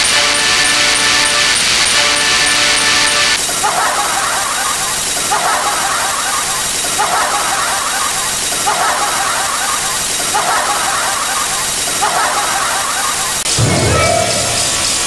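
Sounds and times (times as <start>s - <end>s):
shrill squealing chatter: 0.0s - 15.0s
steady loud hiss: 0.0s - 15.0s.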